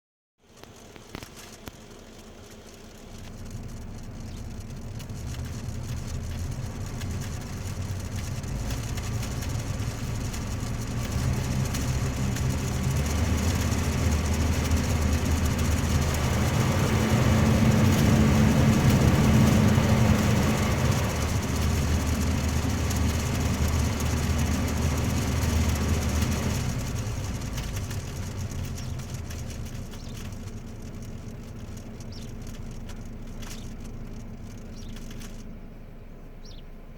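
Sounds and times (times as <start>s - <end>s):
crackling fan noises: 0.4s - 36.9s
ventilation blower fan running: 0.6s - 36.2s.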